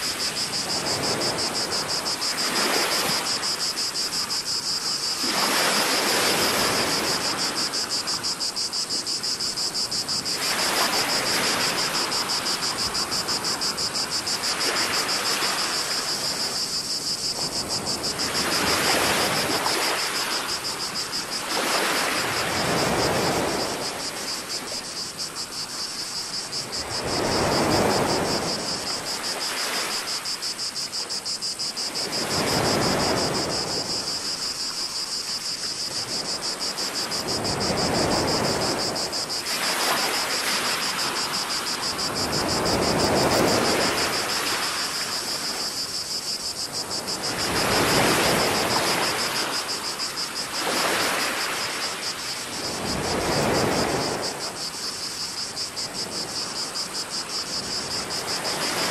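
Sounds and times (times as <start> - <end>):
cicadas chorus: 0.0 - 58.9
small waves washing ashore: 0.0 - 58.9.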